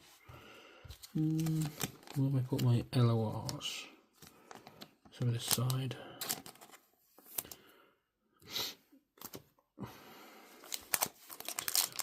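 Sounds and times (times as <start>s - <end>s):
cards and plastic sleeves rustling: 0.0s - 7.7s, 9.2s - 9.6s, 10.5s - 12.0s.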